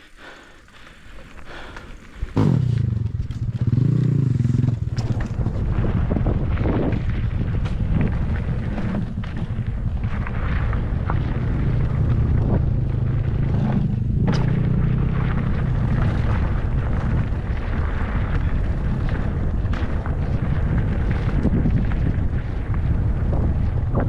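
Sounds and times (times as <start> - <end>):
wind rumbling on microphone: 0.0 - 24.0
small motorcycle engine running: 2.3 - 24.0.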